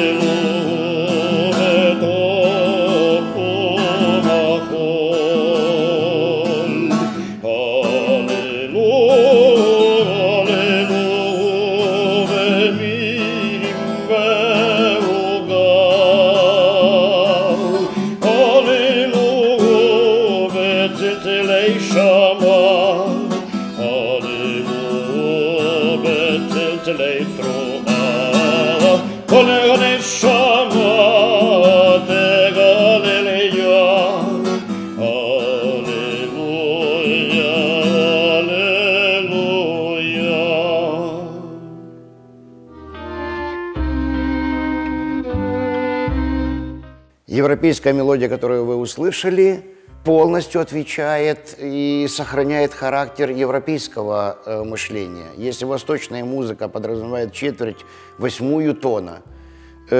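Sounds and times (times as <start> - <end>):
man singing operatic vibrato: 0.0 - 42.0, 47.3 - 59.9
acoustic guitar strumming: 0.0 - 59.9.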